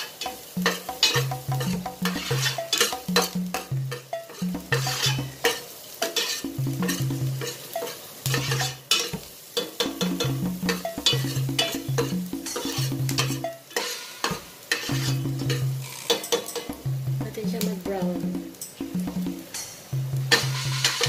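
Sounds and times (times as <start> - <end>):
metal spoon scraping frying pan: 0.0 - 16.8, 19.5 - 21.0
onion and garlic sizzling: 0.0 - 21.0.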